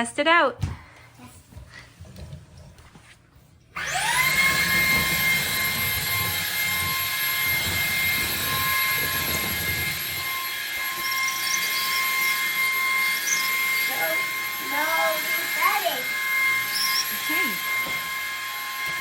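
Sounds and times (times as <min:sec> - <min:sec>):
vacuum motor whining: 0:03.8 - 0:19.0.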